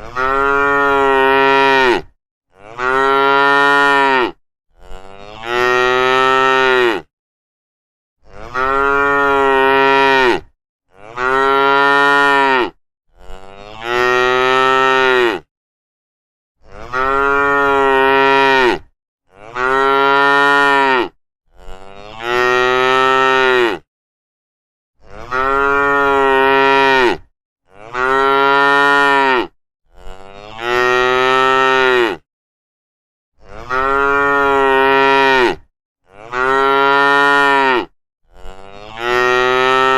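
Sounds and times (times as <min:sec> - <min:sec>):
cattle mooing: 0:00.0 - 0:07.1, 0:08.2 - 0:15.5, 0:16.8 - 0:23.8, 0:25.1 - 0:32.2, 0:33.5 - 0:39.9.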